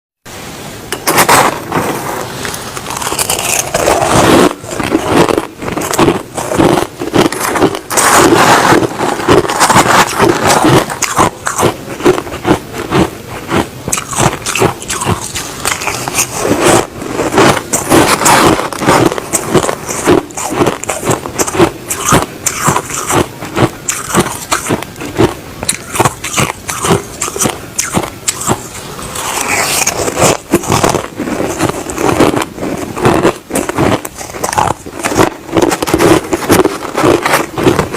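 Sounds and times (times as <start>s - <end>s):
crushed ice crunching: 1.1s - 37.9s.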